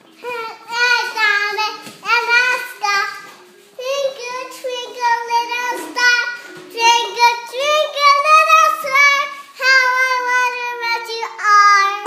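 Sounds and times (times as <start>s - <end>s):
girl singing: 0.2s - 12.0s.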